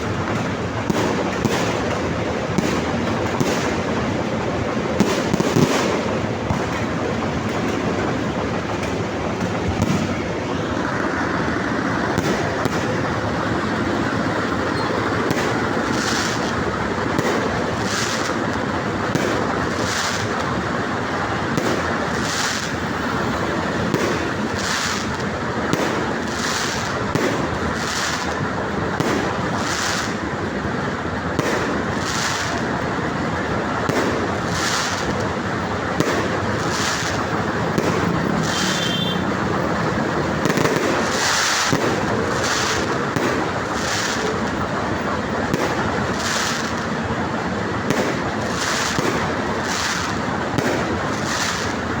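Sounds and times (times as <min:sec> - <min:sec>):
fireworks bangs: 0:00.0 - 0:52.0
fireworks crackling: 0:00.0 - 0:52.0.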